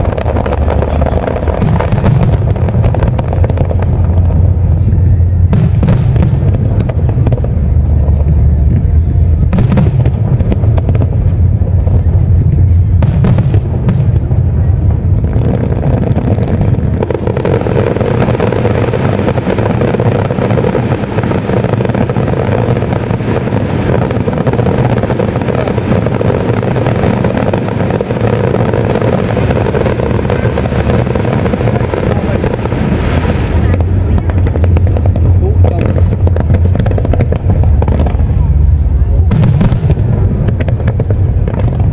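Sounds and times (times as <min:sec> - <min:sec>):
deep fireworks rumble: 0:00.0 - 0:41.9
fireworks crackling: 0:00.0 - 0:41.9.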